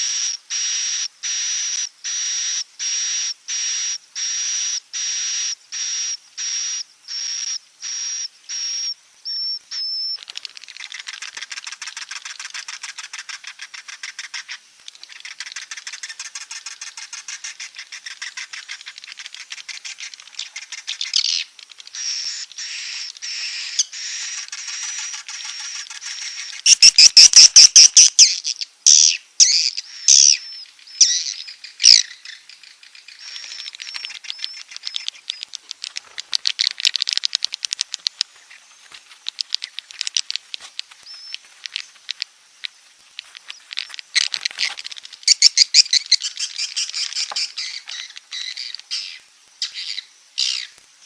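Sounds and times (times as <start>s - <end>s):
high thin bird chirps: 0.0s - 50.8s
rapid bird twittering: 0.0s - 50.8s.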